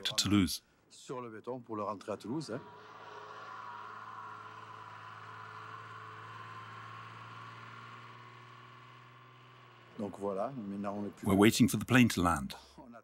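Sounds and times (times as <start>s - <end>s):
tow tractor engine humming: 2.2s - 12.6s.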